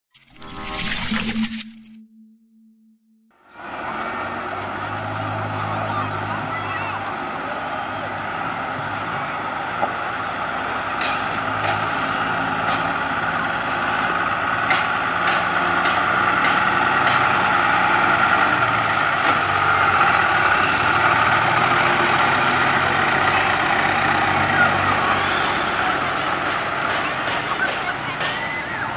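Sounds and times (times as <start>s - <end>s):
diesel truck engine running: 3.6s - 28.9s.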